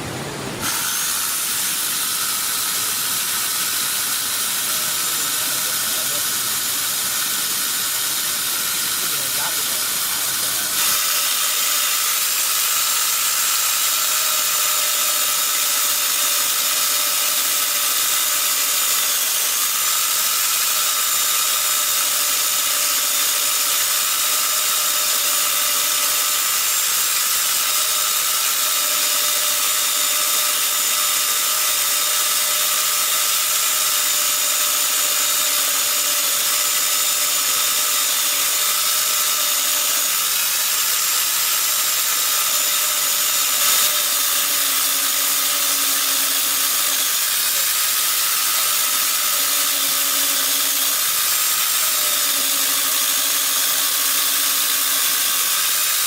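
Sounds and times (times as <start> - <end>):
loud hiss: 0.0 - 56.0
small motor running: 0.0 - 56.0.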